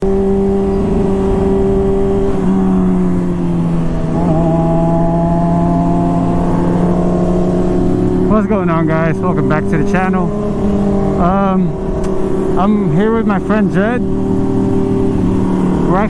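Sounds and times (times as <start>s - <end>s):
motorcycle engine running: 0.0s - 16.0s
wind rumble on microphone: 0.0s - 16.0s.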